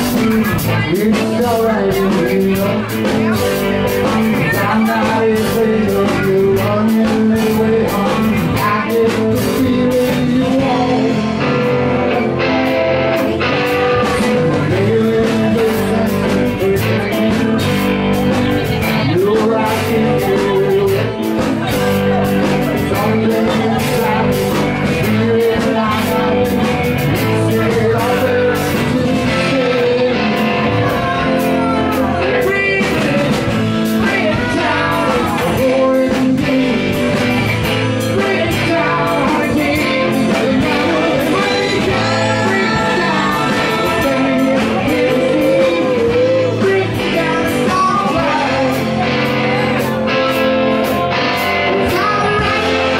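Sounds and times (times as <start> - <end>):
electric and acoustic guitars: 0.0 - 52.9
man singing: 0.0 - 52.9
steady drum beat: 0.0 - 52.9.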